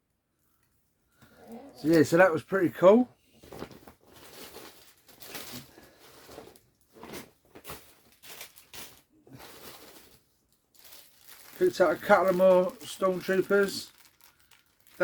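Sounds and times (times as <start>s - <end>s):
rustling of toy packaging: 1.8s - 15.0s.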